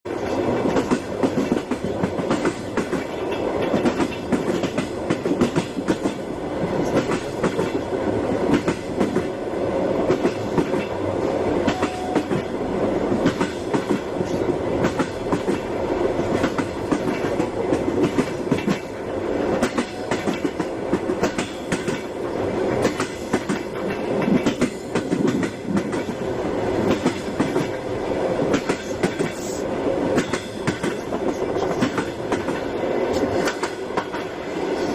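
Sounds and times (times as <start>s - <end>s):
train rumbling on rails: 0.1s - 34.9s.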